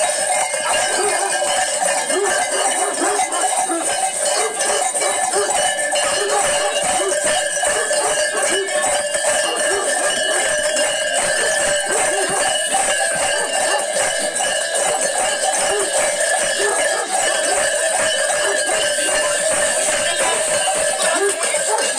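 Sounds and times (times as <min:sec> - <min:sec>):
metal bells jangling: 0:00.0 - 0:21.9
voices: 0:00.0 - 0:21.9.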